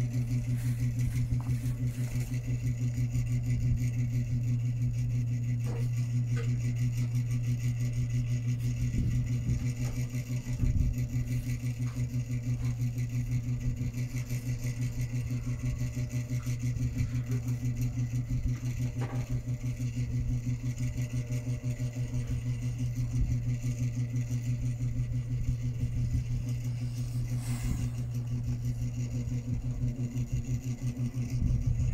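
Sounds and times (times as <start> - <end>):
low mechanical hum with flutter: 0.0 - 31.9.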